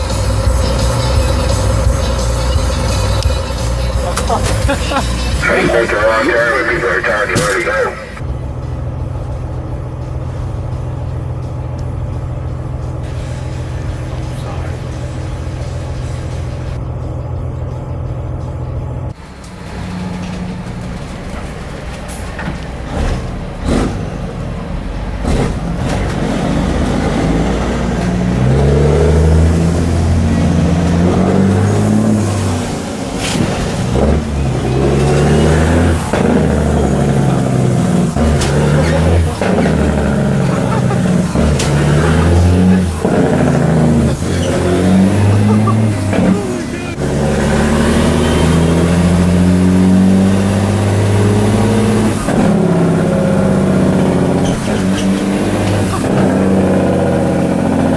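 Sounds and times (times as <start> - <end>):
diesel truck engine revving: 0.0 - 57.9.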